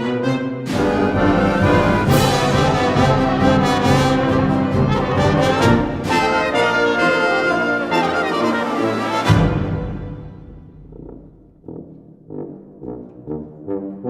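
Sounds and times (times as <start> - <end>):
orchestral brass music: 0.0 - 14.0.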